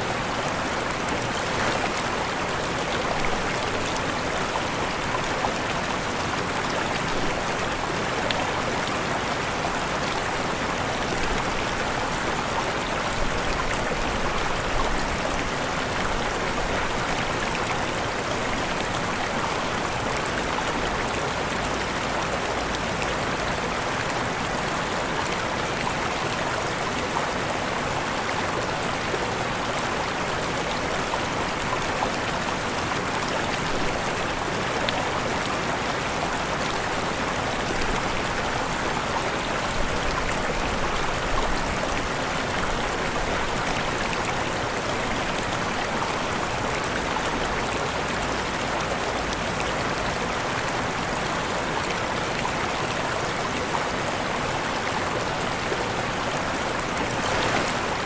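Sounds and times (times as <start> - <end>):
waterfall rushing and splashing: 0.0 - 58.0.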